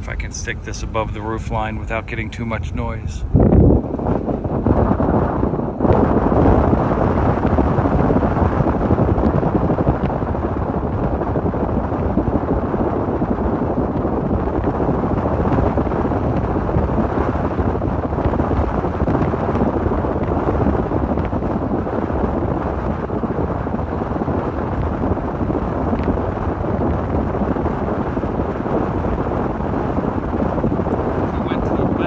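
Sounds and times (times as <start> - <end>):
car running noise: 0.0 - 32.0
wind rushing across microphone: 0.0 - 32.0.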